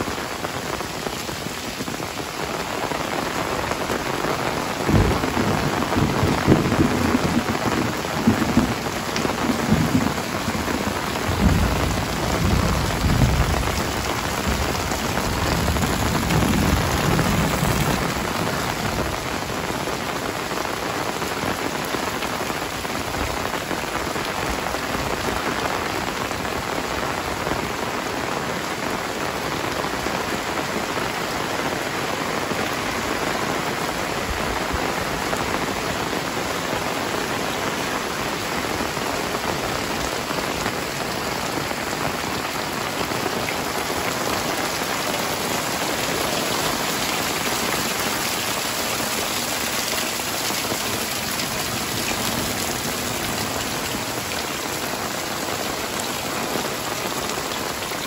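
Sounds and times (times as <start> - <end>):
heavy rain on roofs: 0.0 - 58.0
water running off eaves: 0.0 - 58.0.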